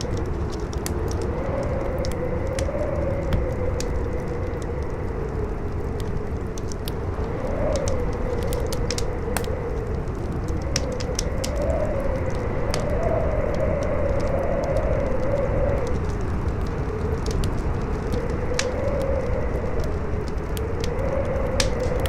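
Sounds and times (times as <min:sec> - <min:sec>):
fire crackling and popping: 0:00.0 - 0:22.0
wind howling: 0:00.0 - 0:22.0.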